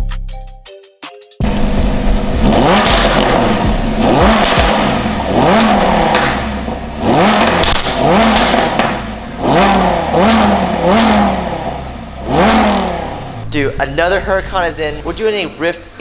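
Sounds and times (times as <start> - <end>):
sports car engine revving: 1.4 - 15.4.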